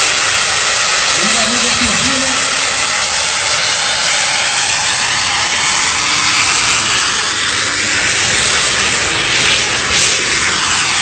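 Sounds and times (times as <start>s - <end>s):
jet turbine engine hissing: 0.0s - 11.0s.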